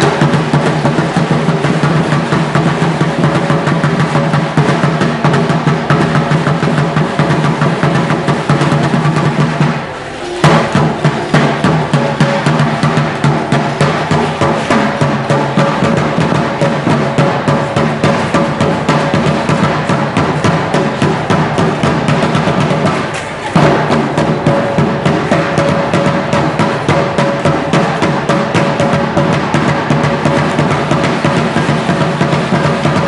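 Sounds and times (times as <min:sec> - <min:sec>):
fast drumming: 0:00.0 - 0:33.0.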